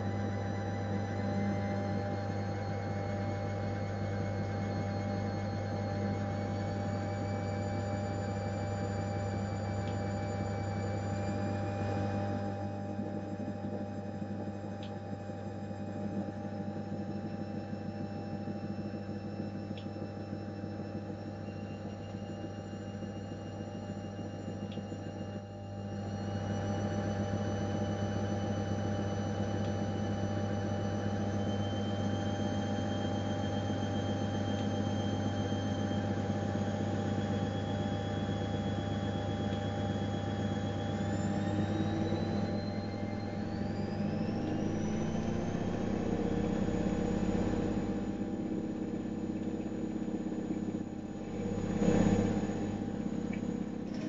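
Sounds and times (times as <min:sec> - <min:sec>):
washing machine hum: 0:00.0 - 0:54.0
washing machine motor whine: 0:00.0 - 0:54.0.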